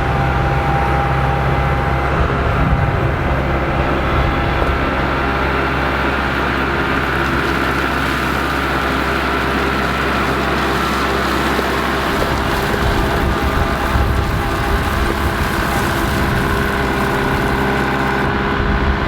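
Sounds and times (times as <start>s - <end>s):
engine running steadily: 0.0s - 19.0s
steady whine: 0.0s - 19.0s.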